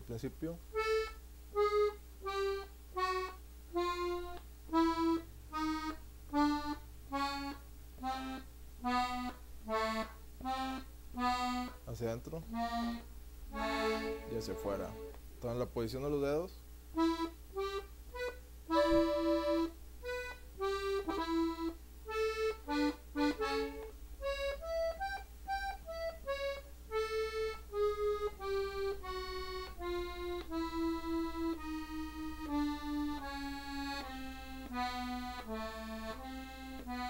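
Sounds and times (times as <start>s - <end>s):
button accordion notes: 0.0s - 16.2s, 16.9s - 37.0s.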